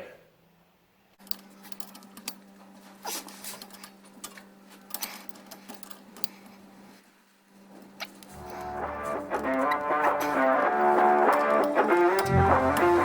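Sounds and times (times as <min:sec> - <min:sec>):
steady hum: 0:01.4 - 0:13.0.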